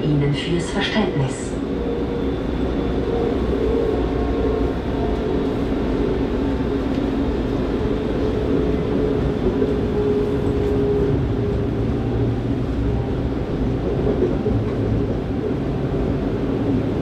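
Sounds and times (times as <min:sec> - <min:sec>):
train running gear rumble: 0:00.0 - 0:17.0.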